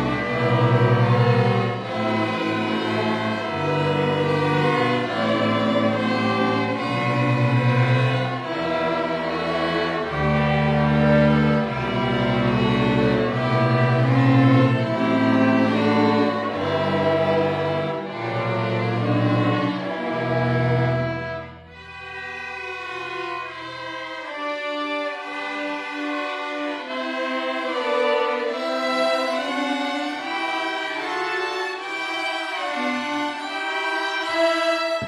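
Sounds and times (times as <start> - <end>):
string orchestra playing: 0.0 - 35.0.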